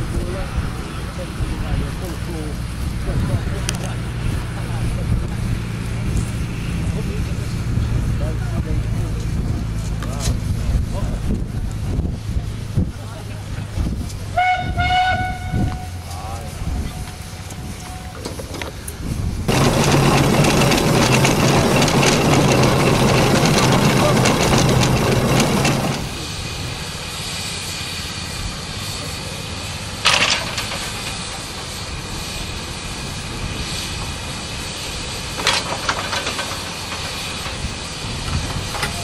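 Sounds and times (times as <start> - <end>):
steam rushing: 0.0 - 39.0.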